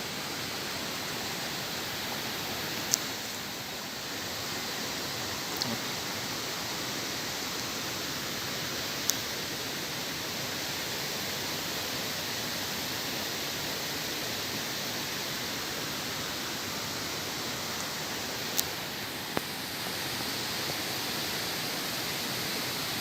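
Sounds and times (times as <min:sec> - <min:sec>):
rushing flowing water: 0:00.0 - 0:23.0.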